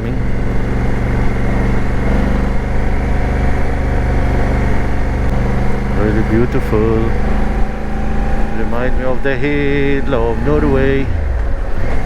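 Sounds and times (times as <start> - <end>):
motorcycle engine under load: 0.0 - 12.0
road and wind noise: 0.0 - 12.0.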